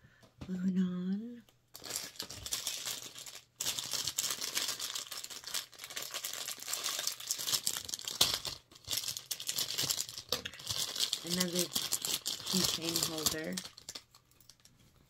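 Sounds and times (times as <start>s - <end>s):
plastic packaging crinkling: 1.7s - 14.7s.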